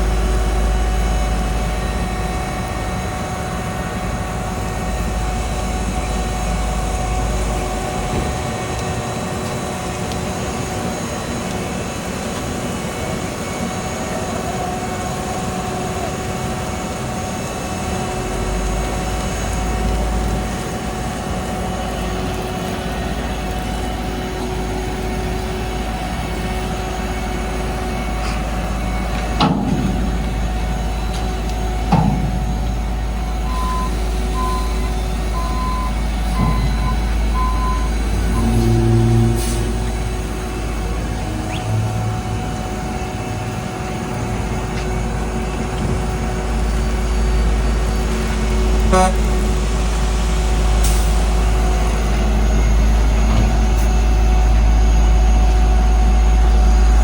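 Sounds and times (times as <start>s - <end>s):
constant whine: 0.0s - 57.0s
diesel machinery engine rumble: 0.0s - 57.0s.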